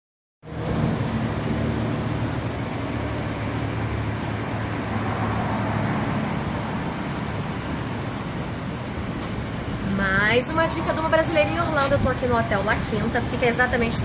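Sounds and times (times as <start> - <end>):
road traffic rumble and hiss: 0.4 - 14.0.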